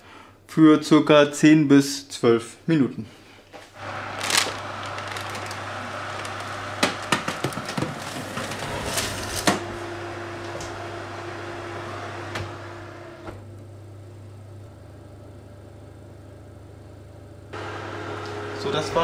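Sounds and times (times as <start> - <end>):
oven humming and hissing: 3.8 - 19.0.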